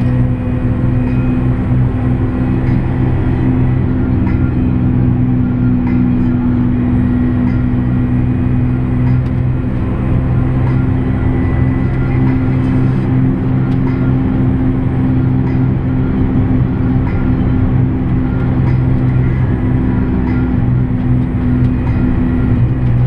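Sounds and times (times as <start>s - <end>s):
tractor diesel engine drone: 0.0s - 23.0s.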